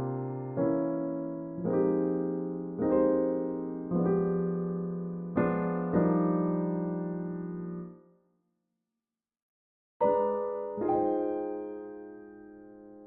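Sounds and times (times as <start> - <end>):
slow gentle piano music: 0.0 - 8.2, 10.0 - 13.0.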